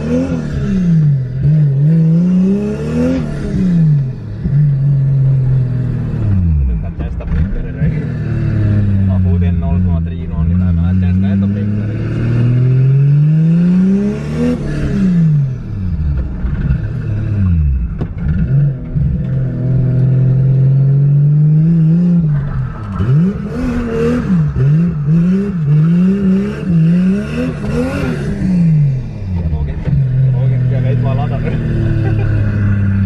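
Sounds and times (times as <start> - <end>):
car engine revving in cabin: 0.0 - 33.0.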